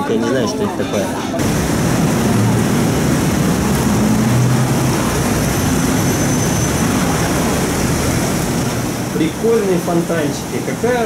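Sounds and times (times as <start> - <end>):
water rushing down a wall fountain: 1.4 - 11.0.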